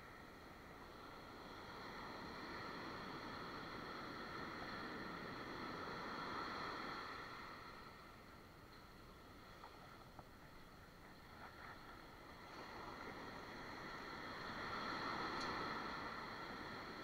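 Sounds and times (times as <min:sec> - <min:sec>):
ocean surf washing over sand: 0:00.0 - 0:17.0.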